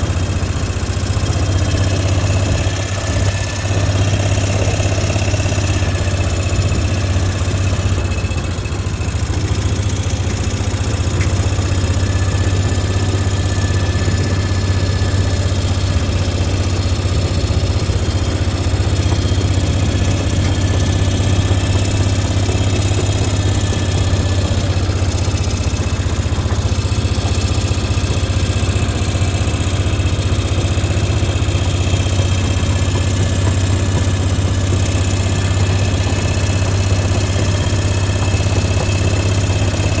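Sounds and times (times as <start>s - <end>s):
vehicle engine humming: 0.0s - 40.0s.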